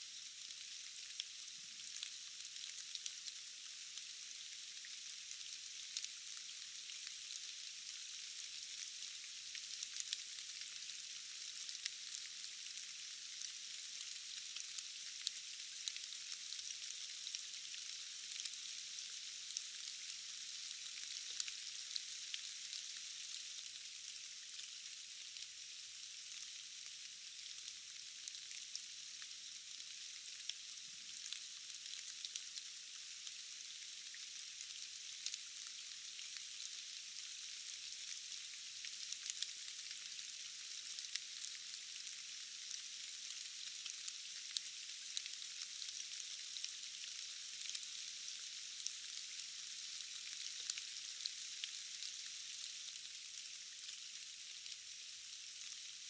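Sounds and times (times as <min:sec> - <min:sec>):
rain hissing with drop ticks: 0:00.1 - 0:56.0.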